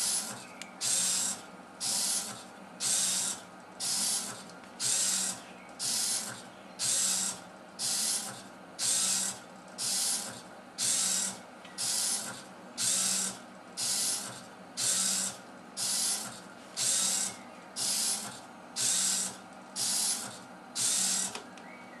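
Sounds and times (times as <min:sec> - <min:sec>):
servo motors whirring: 0:00.0 - 0:21.4.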